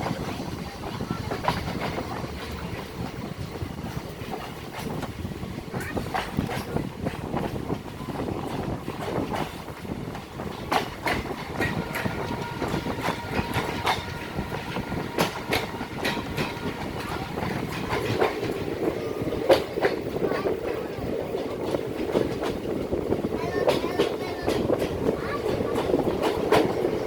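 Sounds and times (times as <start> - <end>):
train rumbling on rails: 0.0 - 27.0
train wheels clattering on track: 0.0 - 27.0.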